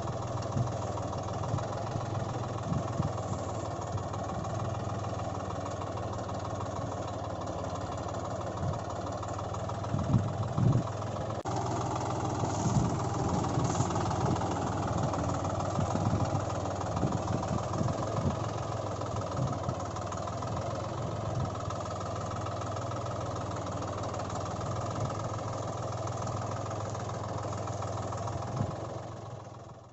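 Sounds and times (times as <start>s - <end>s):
engine knocks: 0.0s - 29.2s
tractor diesel engine idling: 0.0s - 29.9s.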